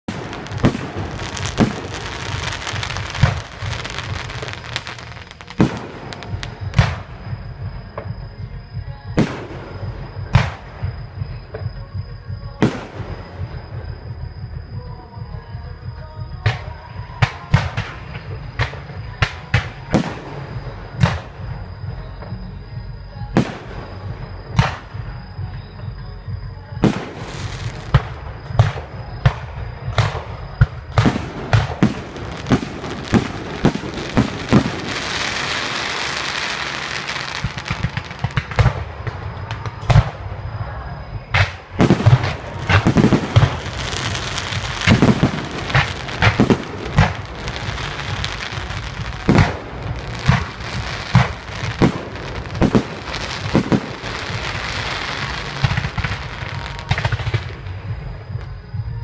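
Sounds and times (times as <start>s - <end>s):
firework booms: 0.0s - 15.3s, 16.1s - 22.4s, 26.3s - 58.9s
firework crackling: 0.0s - 22.4s, 26.4s - 58.8s.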